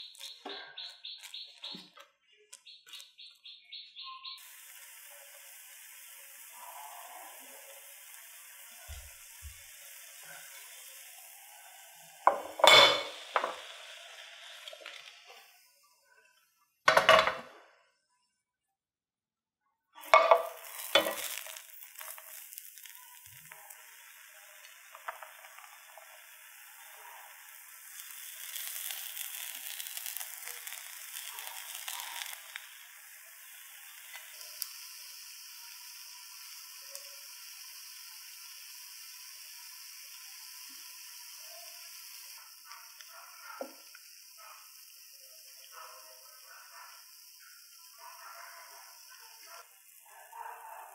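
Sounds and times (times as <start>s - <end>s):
pancake sizzling in oil: 0.0s - 2.0s, 2.6s - 17.6s, 20.0s - 50.9s.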